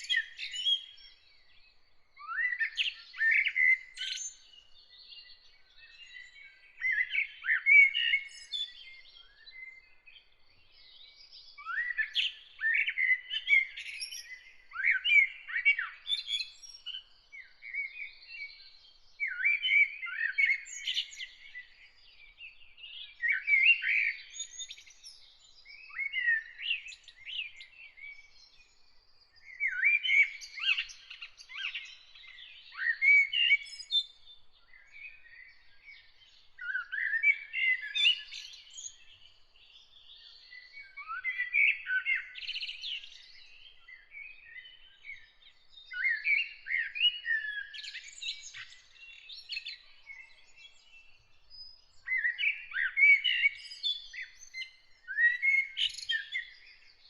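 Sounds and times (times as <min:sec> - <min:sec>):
bird warbling song: 0:00.0 - 0:01.5, 0:02.2 - 0:57.0.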